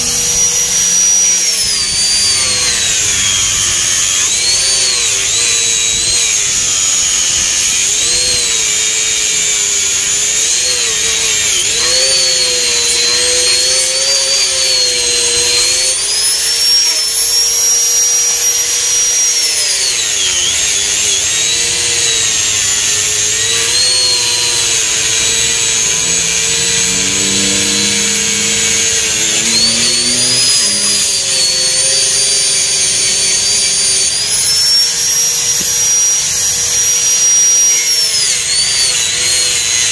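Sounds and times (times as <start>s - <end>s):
angle grinder whining: 0.0s - 39.9s.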